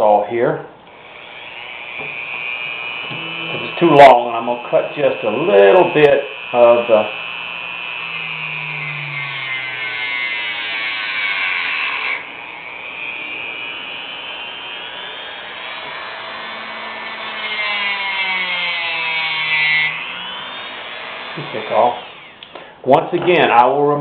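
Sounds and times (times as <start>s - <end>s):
rotary tool cutting wood: 0.9s - 22.6s.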